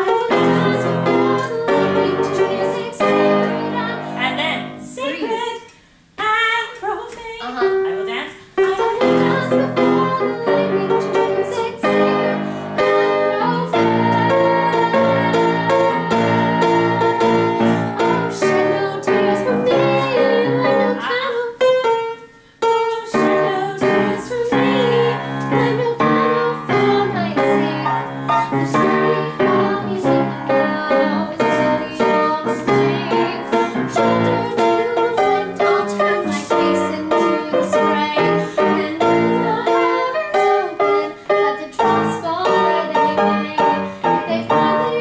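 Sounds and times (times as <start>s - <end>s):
piano playing: 0.0s - 4.9s, 7.5s - 45.0s
woman singing: 0.0s - 45.0s.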